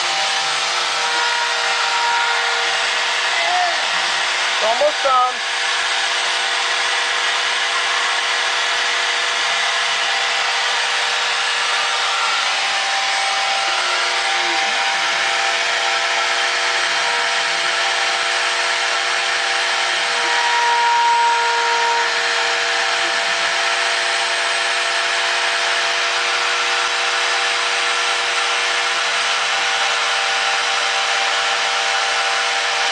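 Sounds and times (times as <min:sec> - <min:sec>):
axis motors whining: 0:00.0 - 0:32.9
cnc spindle running: 0:00.0 - 0:32.9
cutting noise: 0:00.0 - 0:32.9.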